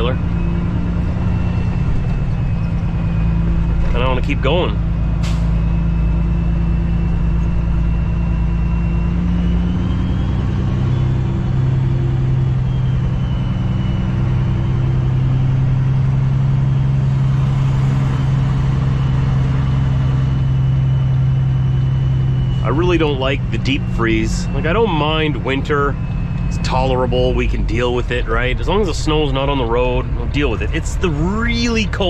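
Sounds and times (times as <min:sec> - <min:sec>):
faint high whine: 0:00.0 - 0:15.9, 0:16.8 - 0:32.0
truck diesel engine: 0:00.0 - 0:32.0.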